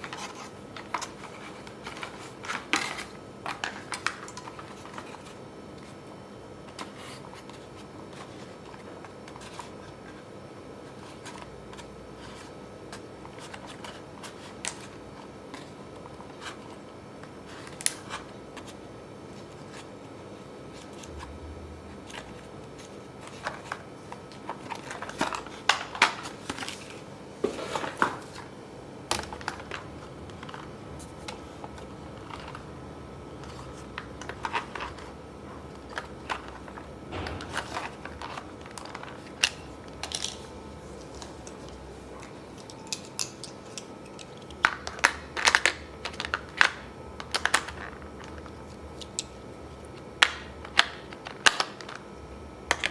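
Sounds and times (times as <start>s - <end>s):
crinkling and tapping: 0.0s - 10.2s, 10.8s - 52.9s
faint steady background hum: 0.0s - 52.9s.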